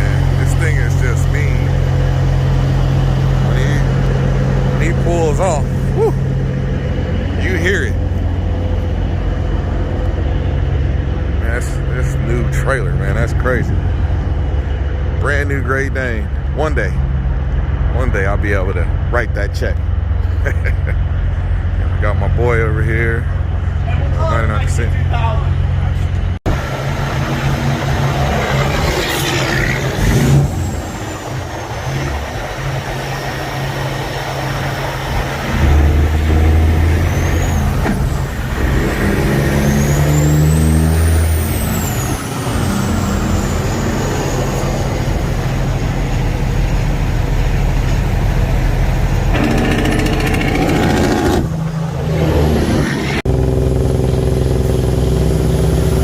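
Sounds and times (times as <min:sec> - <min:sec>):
truck diesel engine revving: 0:00.0 - 0:16.2, 0:26.4 - 0:56.0.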